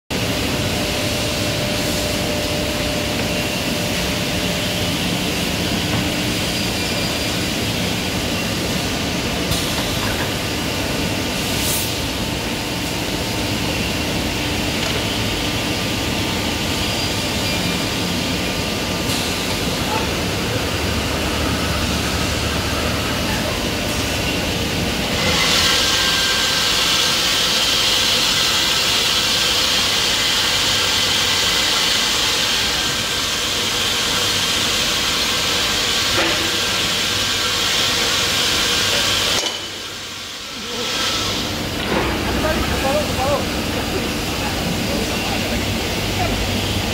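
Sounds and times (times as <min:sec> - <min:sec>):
machine running with mechanical hiss: 0:00.1 - 0:46.9.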